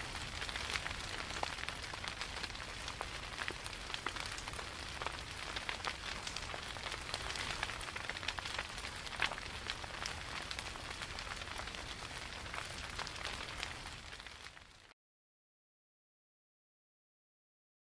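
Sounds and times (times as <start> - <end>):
steady rain pattering: 0.0 - 14.9.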